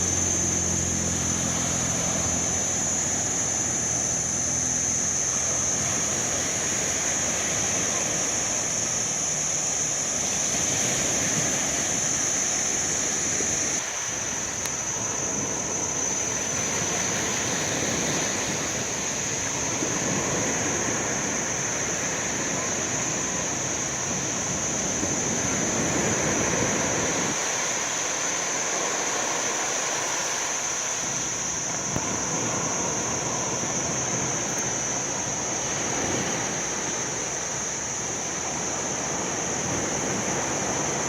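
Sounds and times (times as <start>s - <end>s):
high-pitched whine: 0.0s - 41.0s
low engine hum: 0.0s - 41.0s
surf washing onto shore: 0.0s - 41.0s.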